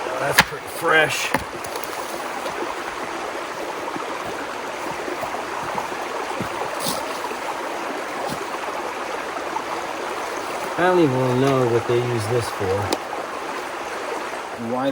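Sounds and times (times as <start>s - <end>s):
stream flowing: 0.0s - 14.9s.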